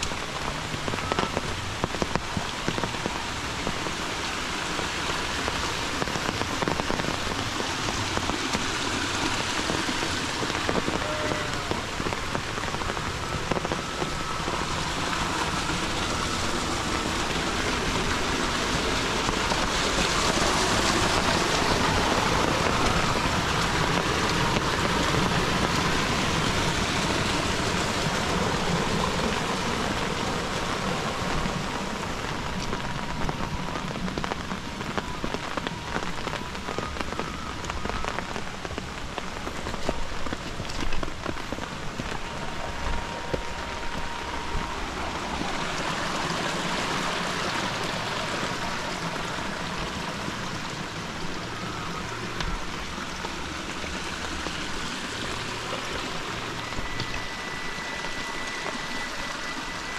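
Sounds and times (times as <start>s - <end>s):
heavy rain on foliage: 0.0s - 59.9s
rain drop taps: 0.0s - 59.9s.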